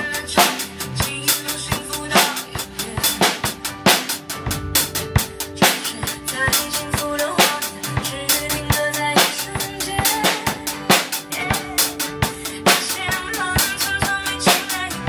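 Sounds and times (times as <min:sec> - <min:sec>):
instrumental backing music: 0:00.0 - 0:15.0
rock drum beat: 0:00.0 - 0:15.0.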